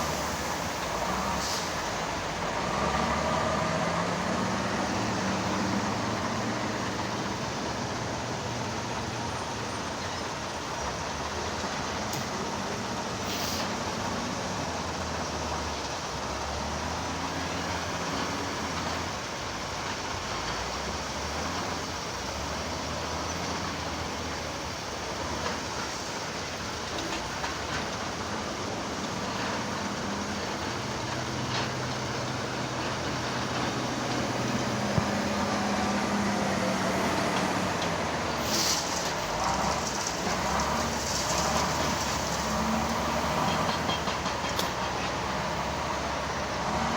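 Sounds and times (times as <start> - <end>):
diesel engine of heavy machine: 0.0 - 46.9.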